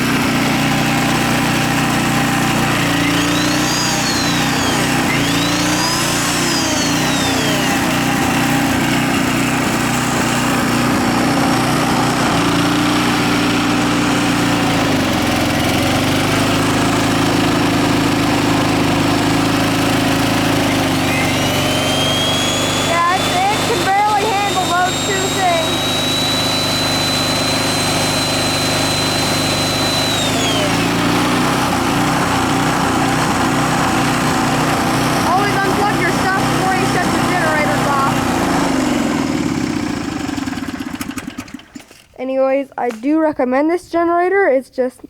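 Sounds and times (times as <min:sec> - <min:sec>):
generator engine bogging under load: 0:00.0 - 0:42.2.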